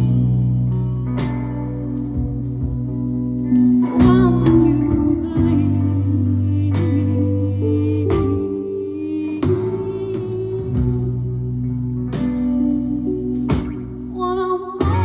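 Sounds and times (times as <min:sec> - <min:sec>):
electric guitar through amplifiers: 0:00.0 - 0:15.0
low bass notes: 0:00.0 - 0:15.0.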